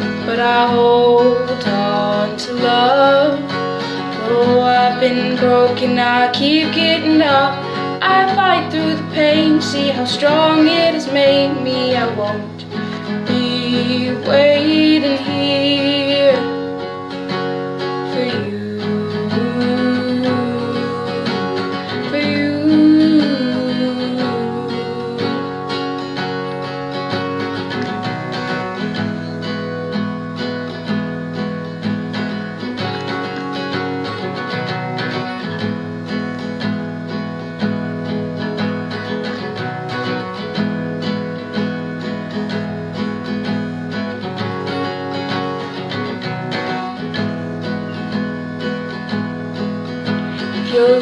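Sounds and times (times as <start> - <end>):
acoustic guitar music: 0.0 - 51.0.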